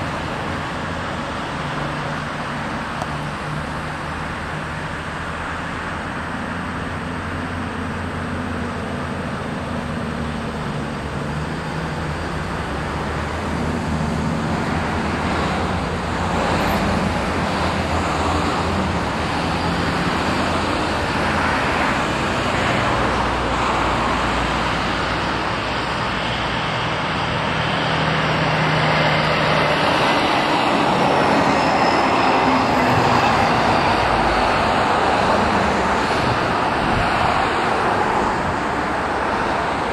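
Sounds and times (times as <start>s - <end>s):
road traffic rush: 0.0s - 39.9s.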